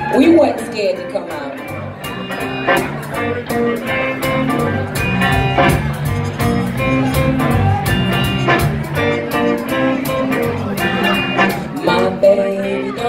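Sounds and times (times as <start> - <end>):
drum kit beat: 0.0 - 13.0
electric bass: 0.0 - 13.0
electric guitar: 0.0 - 13.0.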